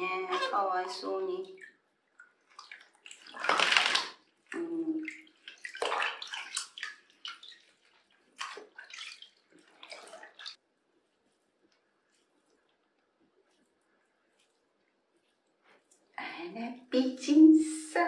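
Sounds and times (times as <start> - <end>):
water splashing in a plastic tub: 0.0 - 16.2.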